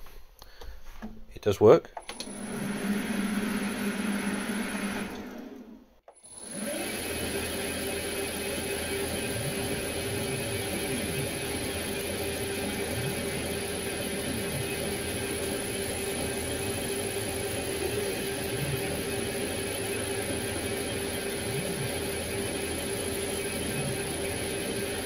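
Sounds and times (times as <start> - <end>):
lathe spindle motor humming: 2.0 - 25.0
stepper motors whining: 2.0 - 25.0.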